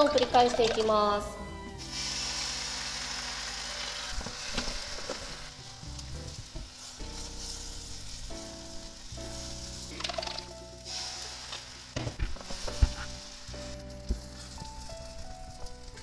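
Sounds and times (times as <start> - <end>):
egg mixture sizzling in frying pan: 1.8 - 16.0.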